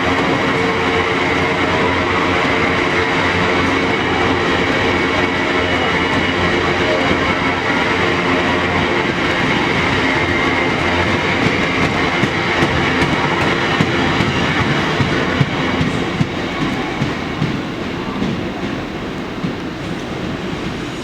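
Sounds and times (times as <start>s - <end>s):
train wheels clickety-clack: 0.0s - 21.0s.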